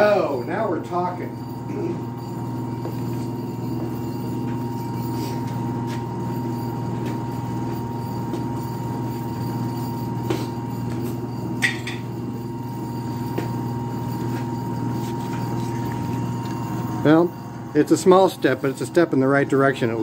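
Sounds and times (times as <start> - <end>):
motor electrical hum: 0.0 - 20.0.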